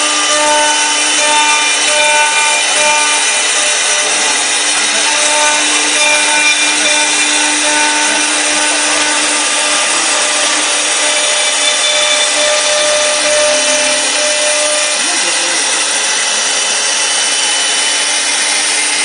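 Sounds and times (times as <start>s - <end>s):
humming tones: 0.0s - 19.0s
lathe cutter cutting wood: 0.0s - 19.0s.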